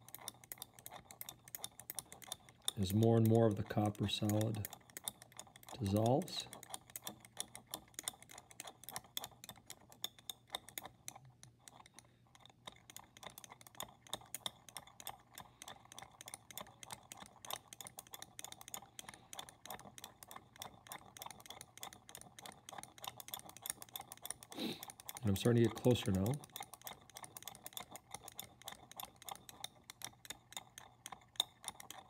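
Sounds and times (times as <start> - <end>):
glass rod clicking in test tube: 0.0 - 11.8, 12.7 - 32.0.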